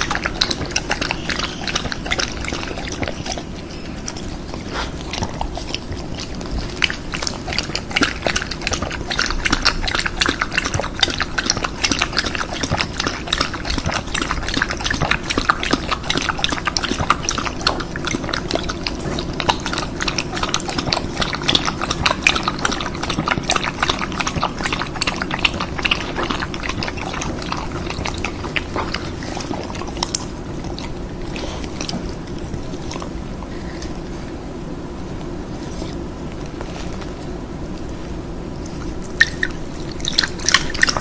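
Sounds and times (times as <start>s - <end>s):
dog lapping liquid: 0.0s - 34.4s, 38.6s - 41.0s
steady low hum: 0.0s - 41.0s.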